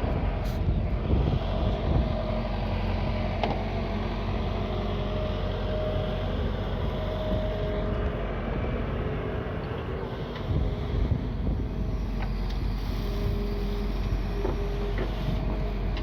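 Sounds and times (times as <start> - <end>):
machine engine rumbling: 0.0 - 16.0.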